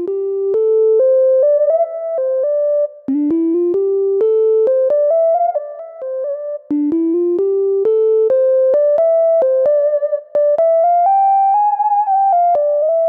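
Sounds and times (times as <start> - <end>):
synthesizer keyboard melody: 0.0 - 13.0.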